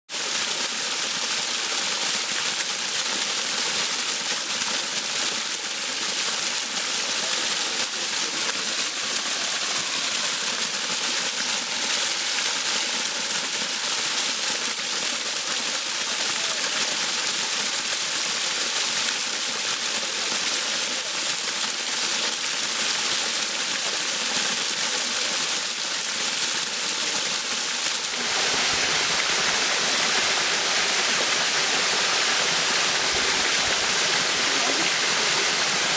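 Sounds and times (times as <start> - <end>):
waterfall rushing into pool: 0.1 - 35.9.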